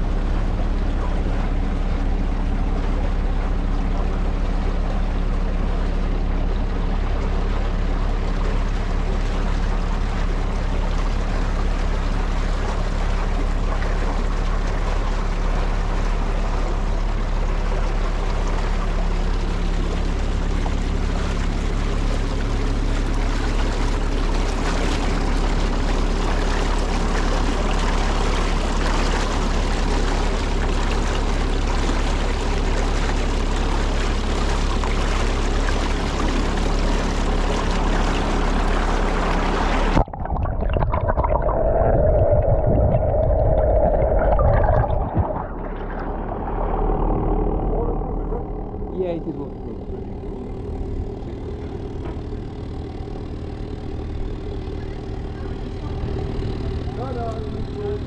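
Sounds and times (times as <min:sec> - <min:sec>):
boat engine humming: 0:00.0 - 0:58.0
water rushing through canal lock: 0:00.0 - 0:58.0.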